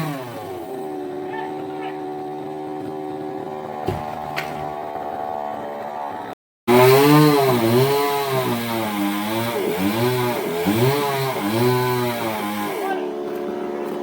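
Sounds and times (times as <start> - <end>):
chainsaw cutting wood: 0.0 - 5.5, 6.7 - 14.0.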